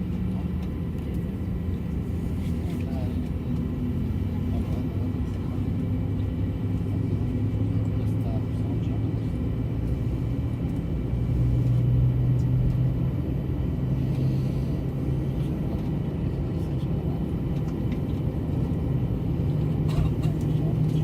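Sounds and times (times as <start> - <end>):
airliner cabin engine drone: 0.0 - 21.0.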